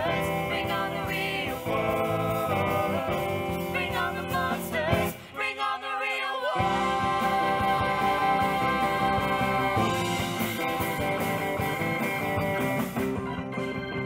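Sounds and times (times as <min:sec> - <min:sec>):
live band playing rock number: 0:00.0 - 0:05.2, 0:06.6 - 0:14.0
cast singing held notes: 0:00.0 - 0:11.3.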